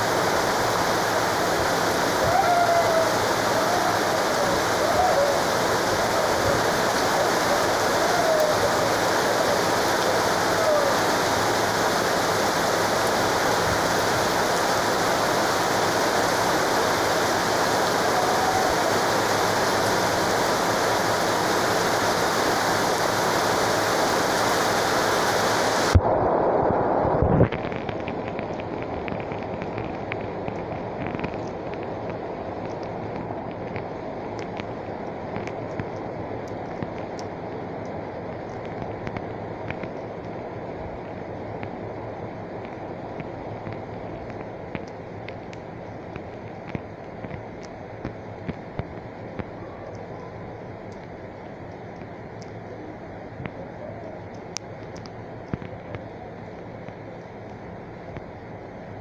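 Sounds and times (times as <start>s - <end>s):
torrential rain: 0.0s - 59.0s.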